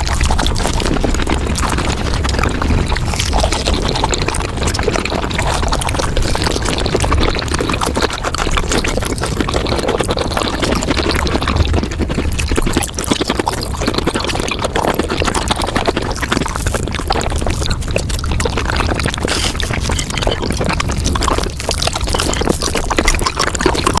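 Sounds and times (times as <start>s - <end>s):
fast chewing and crunching: 0.0s - 24.0s.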